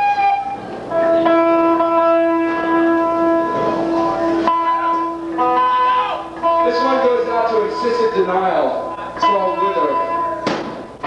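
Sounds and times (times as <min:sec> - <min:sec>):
live punk band playing: 0:00.0 - 0:11.0
ringing electric guitar chords: 0:00.0 - 0:11.0.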